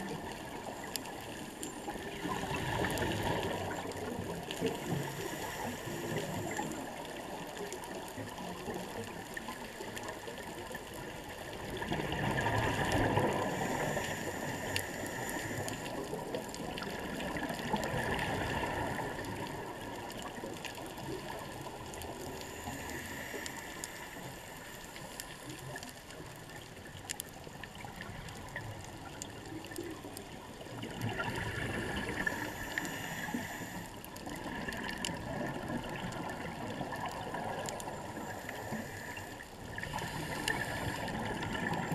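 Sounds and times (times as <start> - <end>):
underwater watery hiss: 0.0 - 8.5, 11.7 - 26.6, 30.4 - 41.9.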